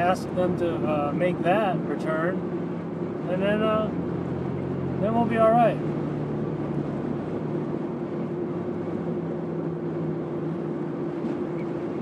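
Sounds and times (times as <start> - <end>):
car road and engine noise: 0.0 - 12.0
constant low hum: 0.0 - 12.0.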